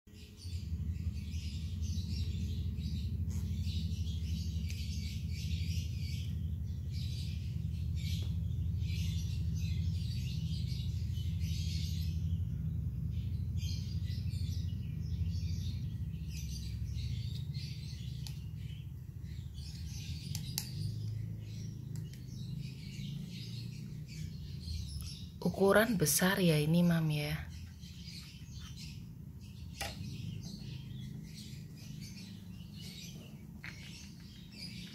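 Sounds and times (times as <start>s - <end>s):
birds chirping: 0.1s - 34.9s
steady low hum: 0.1s - 34.9s.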